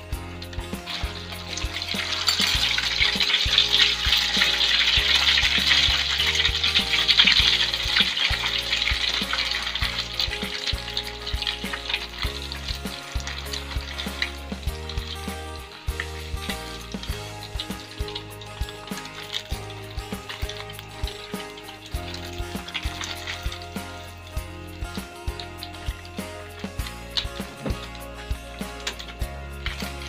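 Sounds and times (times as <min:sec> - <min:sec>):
dough deep-frying in oil: 0:00.0 - 0:30.0.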